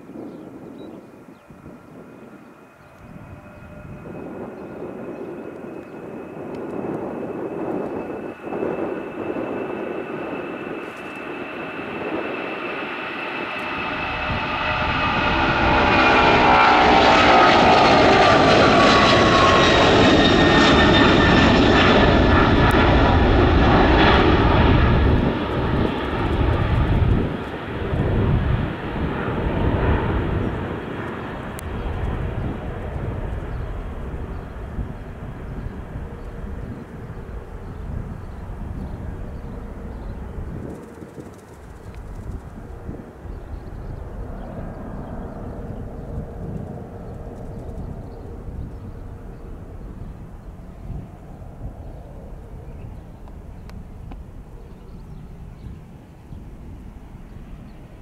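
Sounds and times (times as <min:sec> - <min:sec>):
jet airliner roaring: 0:00.0 - 0:58.0.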